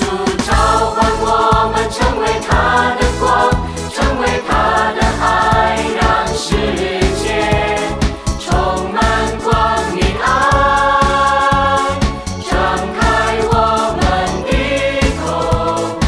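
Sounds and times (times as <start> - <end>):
voices singing over a beat: 0.0 - 16.0.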